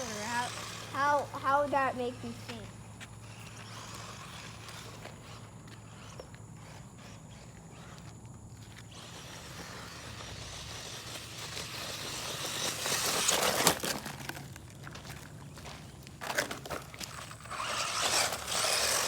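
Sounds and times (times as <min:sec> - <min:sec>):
crunching on rough ground: 0:00.0 - 0:19.0.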